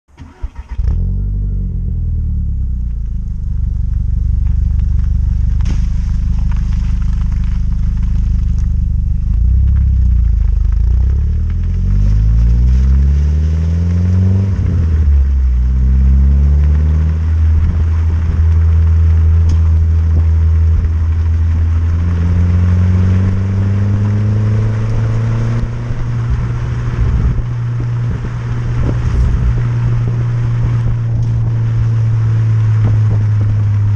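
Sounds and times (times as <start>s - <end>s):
car engine starting: 0.0s - 33.9s
car engine idling and revving: 0.1s - 33.9s.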